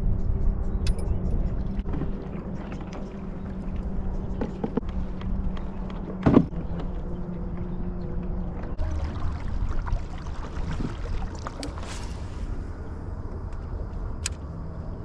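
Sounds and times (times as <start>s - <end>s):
wind noise: 0.0s - 6.8s, 8.7s - 15.0s
water sloshing against hull: 1.2s - 14.1s.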